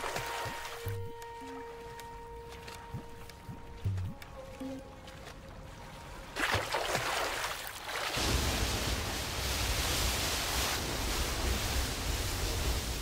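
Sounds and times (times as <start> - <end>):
water rushing with deep rumble: 0.0 - 13.0
water splashing: 0.0 - 13.0.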